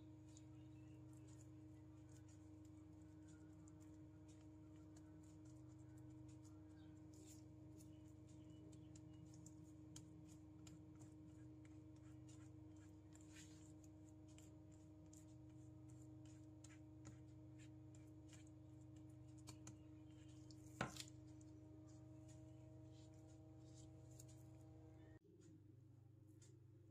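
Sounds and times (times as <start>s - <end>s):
spatula scraping and ticking: 0.0s - 24.7s
steady low hum: 0.0s - 26.9s.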